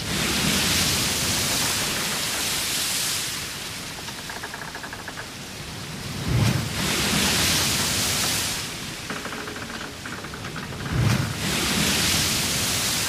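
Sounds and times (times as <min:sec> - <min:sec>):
water rushing along ship hull: 0:00.0 - 0:13.0.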